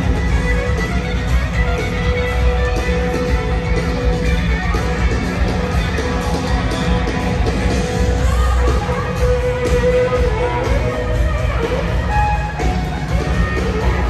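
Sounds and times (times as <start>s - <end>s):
drums: 0.0s - 14.0s
electric guitar: 0.0s - 14.0s
live rock band over pa: 0.0s - 14.0s.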